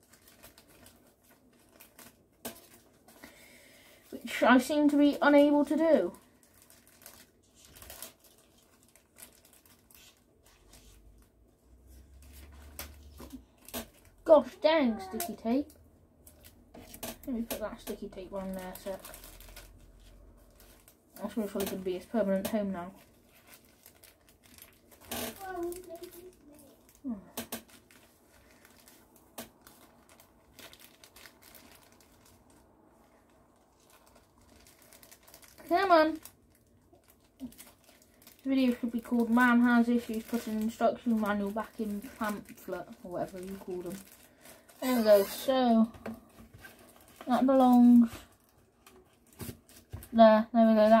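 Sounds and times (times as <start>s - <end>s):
paper and cardboard rustling: 4.2s - 15.4s, 16.4s - 32.4s, 36.9s - 51.0s.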